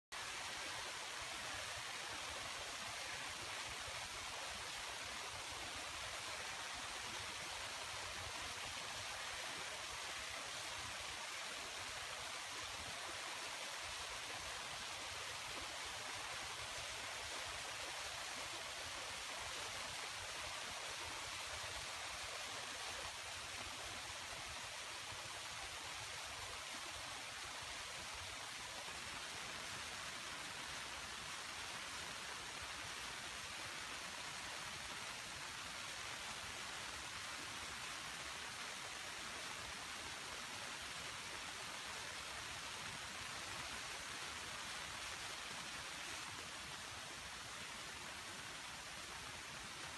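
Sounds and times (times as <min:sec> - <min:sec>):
stream water rushing: 0:00.2 - 0:49.9.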